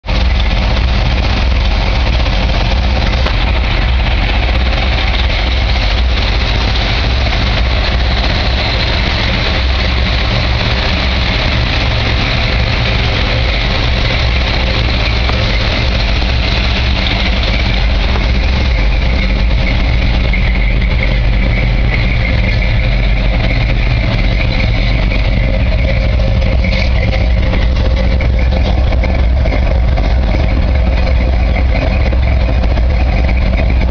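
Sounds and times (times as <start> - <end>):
vee eight engine idling: 0.0 - 33.9.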